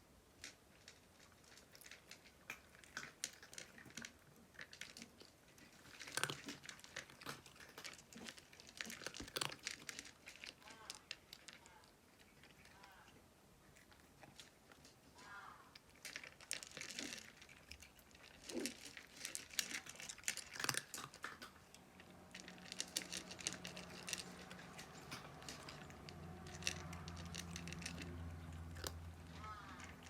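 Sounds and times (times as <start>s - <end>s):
cats crunching dry kibble: 0.0s - 30.0s
low steady hum: 5.4s - 30.0s.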